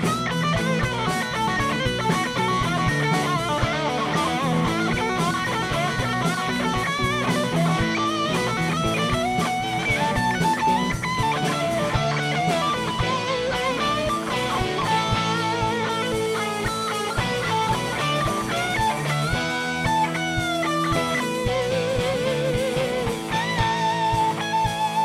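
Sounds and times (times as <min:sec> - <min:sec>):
lead guitar bending notes: 0:00.0 - 0:25.0
rock band playing live: 0:00.0 - 0:25.0.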